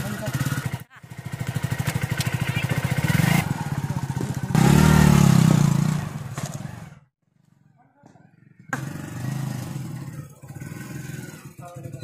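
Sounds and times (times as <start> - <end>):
motorcycle engine revving: 0.0 - 7.1, 8.3 - 12.0.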